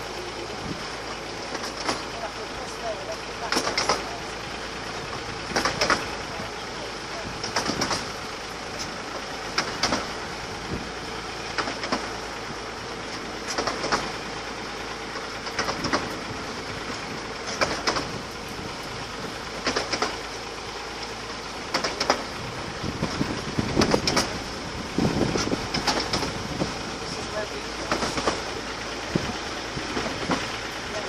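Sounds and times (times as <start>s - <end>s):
miniature train rolling: 0.0s - 31.0s
wheels clattering over rail joints: 0.0s - 31.0s.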